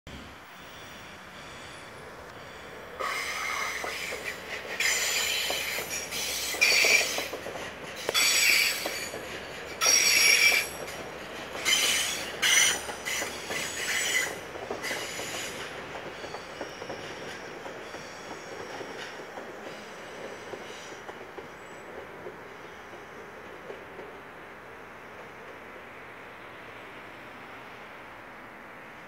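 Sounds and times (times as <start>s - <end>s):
railway wheels squealing: 0.2s - 23.9s.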